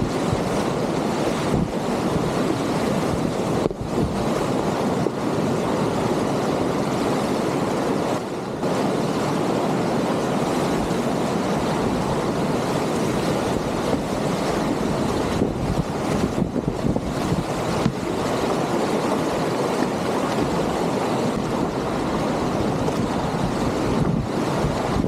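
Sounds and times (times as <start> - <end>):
whitewater rapids rushing: 0.0 - 25.0
wind buffeting microphone: 0.0 - 25.0.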